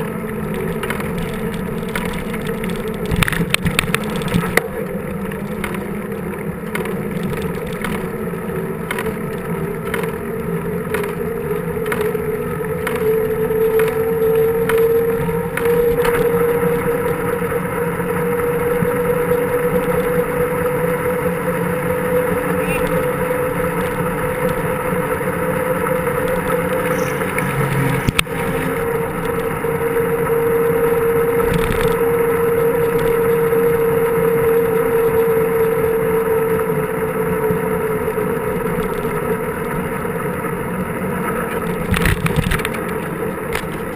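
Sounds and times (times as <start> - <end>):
bike wind and rolling noise: 0.0 - 43.9
steady hum: 0.0 - 43.9.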